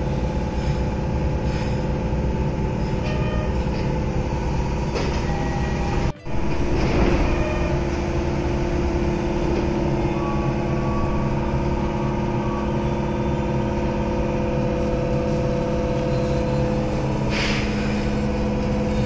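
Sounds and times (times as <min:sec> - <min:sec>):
train equipment hum: 0:00.0 - 0:19.0.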